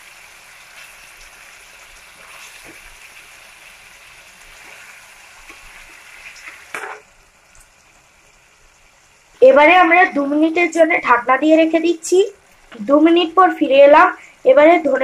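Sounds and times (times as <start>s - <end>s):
gravy simmering and hissing: 0.0s - 15.0s.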